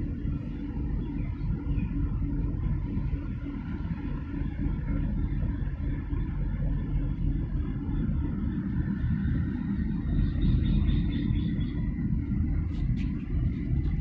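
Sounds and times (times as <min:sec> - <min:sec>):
ship low rumble: 0:00.0 - 0:14.0
wind on microphone: 0:00.0 - 0:14.0.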